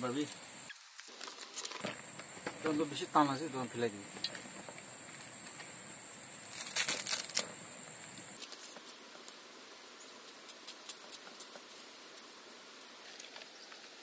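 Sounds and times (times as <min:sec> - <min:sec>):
cricket trill: 0:00.0 - 0:14.0.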